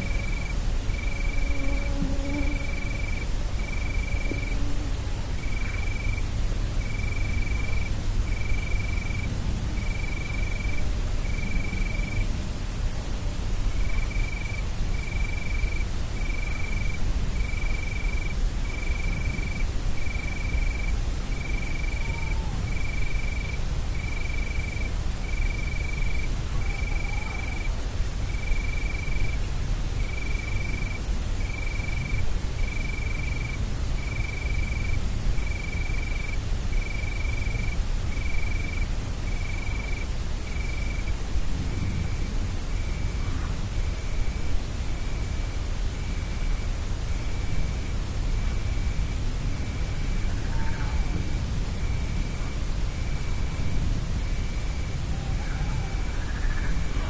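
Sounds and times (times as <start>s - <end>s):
high cricket-like chirp: 0.0s - 57.0s
steady low hum: 0.0s - 57.0s.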